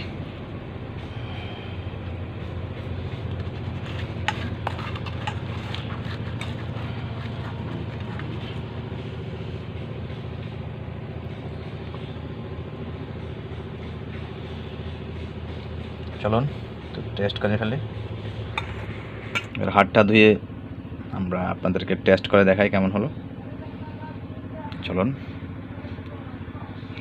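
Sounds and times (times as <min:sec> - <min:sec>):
low engine-like hum: 0:00.0 - 0:27.0.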